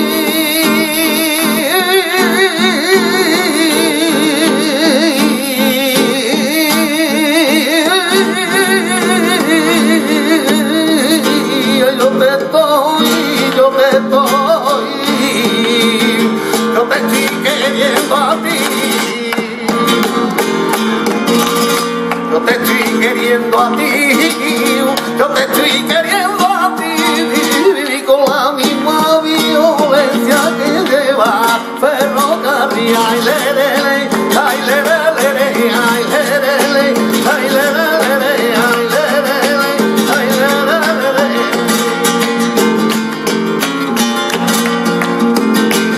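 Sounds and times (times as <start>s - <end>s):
flamenco guitar: 0.0s - 45.9s
man singing: 0.0s - 45.9s
rhythmic handclaps: 0.0s - 45.9s.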